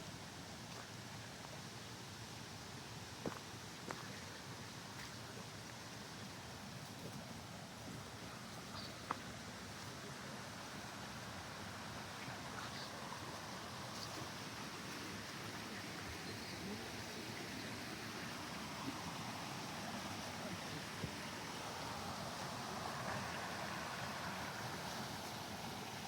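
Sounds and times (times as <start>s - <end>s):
rushing outdoor ambience: 0.0s - 26.0s.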